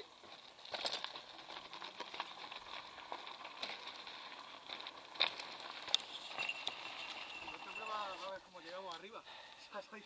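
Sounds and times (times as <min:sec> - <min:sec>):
bike tyres crackling over gravel: 0:00.0 - 0:10.0.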